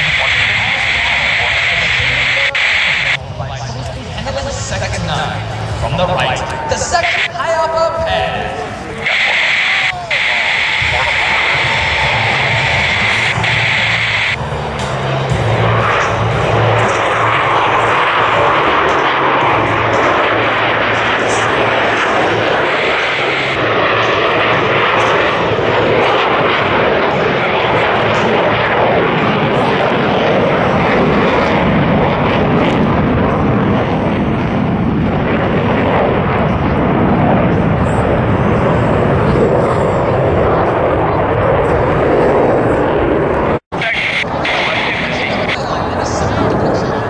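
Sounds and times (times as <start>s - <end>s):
jet fighters flying overhead: 0.0s - 47.0s.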